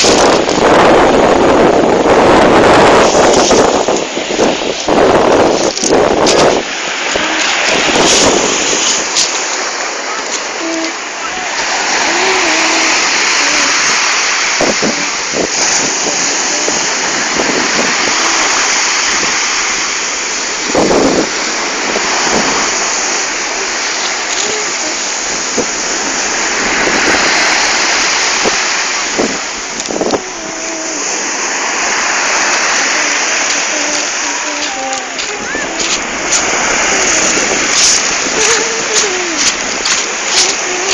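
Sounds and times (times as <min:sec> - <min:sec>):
ocean waves breaking: 0:00.0 - 0:40.9
wave splash: 0:00.0 - 0:40.9.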